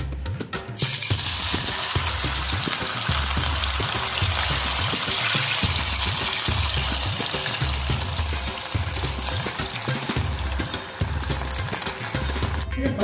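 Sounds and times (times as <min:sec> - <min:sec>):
oil sizzling and bubbling: 0:00.8 - 0:12.7.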